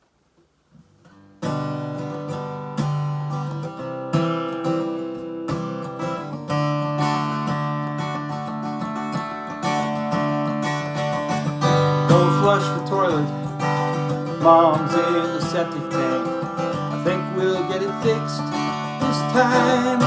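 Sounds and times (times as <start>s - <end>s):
acoustic guitar strumming chords: 1.0s - 20.0s.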